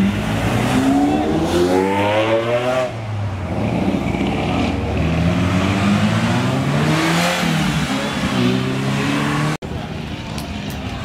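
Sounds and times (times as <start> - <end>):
sports car engines accelerating: 0.0 - 9.8.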